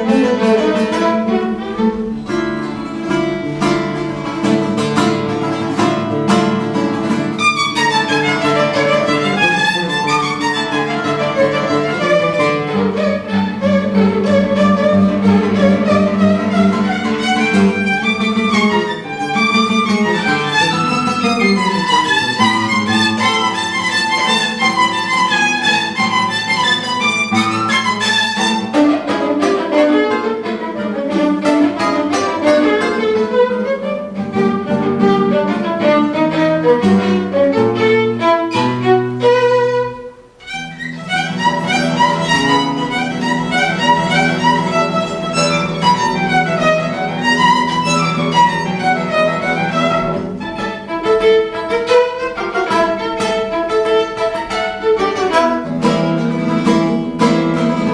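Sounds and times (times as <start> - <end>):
bowed violin melody: 0.0 - 57.9
guitar accompaniment: 0.0 - 57.9.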